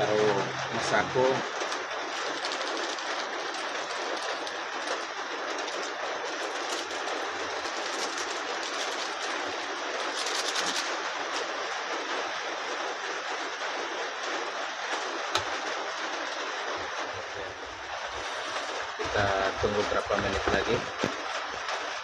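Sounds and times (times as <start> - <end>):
heavy rain hiss: 0.0 - 22.0.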